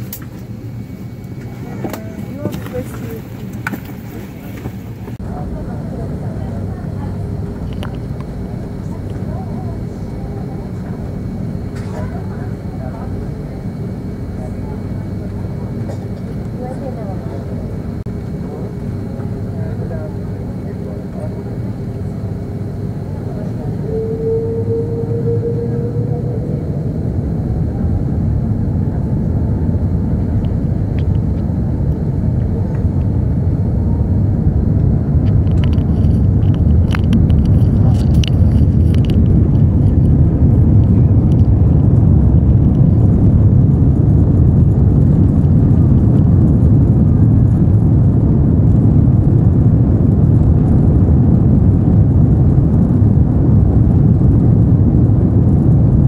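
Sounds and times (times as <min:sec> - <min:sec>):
engine whine rising: 0:00.0 - 0:56.0
jet engine and runway rumble: 0:00.0 - 0:56.0.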